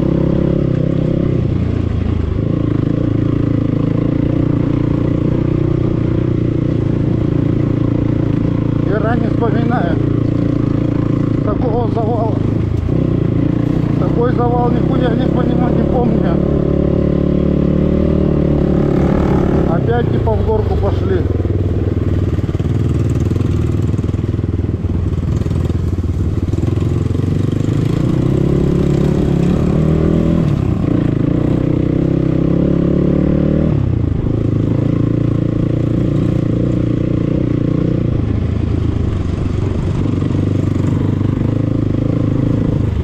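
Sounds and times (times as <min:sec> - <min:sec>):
dirt bike engine revving: 0:00.0 - 0:01.4, 0:02.4 - 0:24.4, 0:26.4 - 0:43.0.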